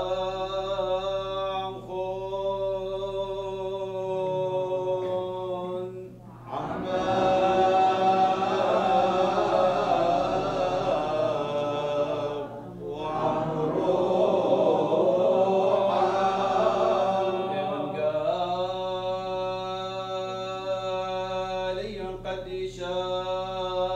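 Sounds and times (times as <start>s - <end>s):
man chanting: 0.0s - 23.9s.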